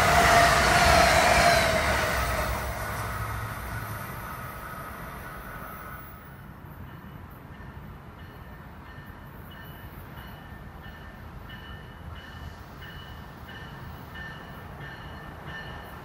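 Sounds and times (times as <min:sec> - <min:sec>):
rail hiss: 0:00.0 - 0:16.0
train rumble: 0:00.0 - 0:16.0.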